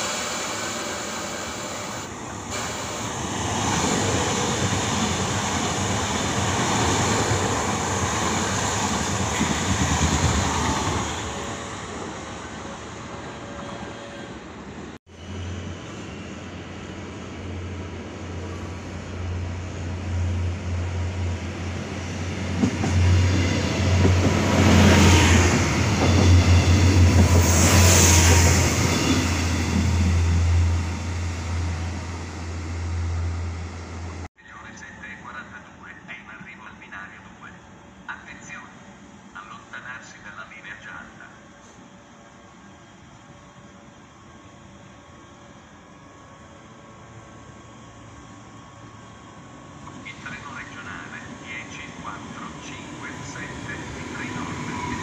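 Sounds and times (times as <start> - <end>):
electric train pulling in: 0.0 - 35.0, 41.1 - 55.0
train running past: 0.0 - 55.0.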